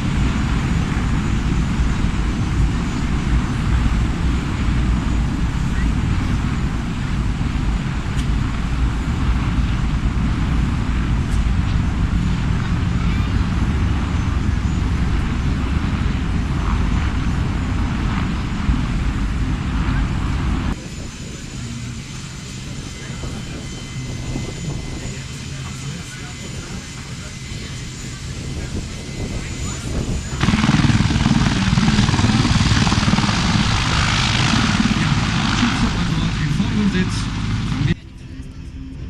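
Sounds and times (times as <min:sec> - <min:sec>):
aircraft engines roaring: 0:00.0 - 0:39.0.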